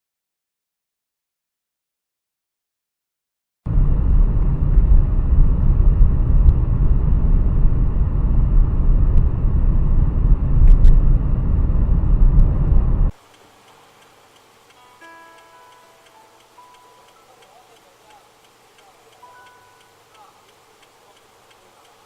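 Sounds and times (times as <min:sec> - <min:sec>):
car engine and road noise: 0:03.7 - 0:22.0.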